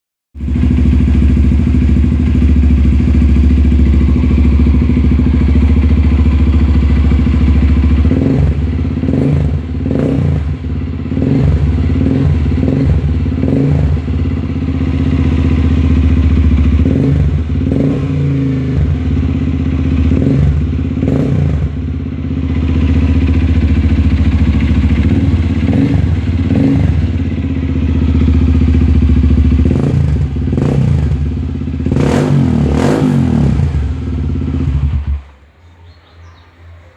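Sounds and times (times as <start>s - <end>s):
motorcycle engine revving: 0.4s - 36.9s.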